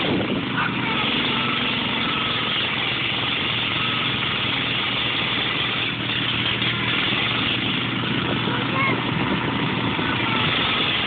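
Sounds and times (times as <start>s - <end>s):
garden tractor engines under load: 0.0s - 11.0s.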